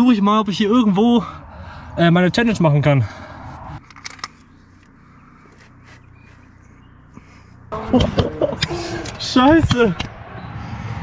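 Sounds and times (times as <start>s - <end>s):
quiet outdoor ambience: 0.0s - 11.0s.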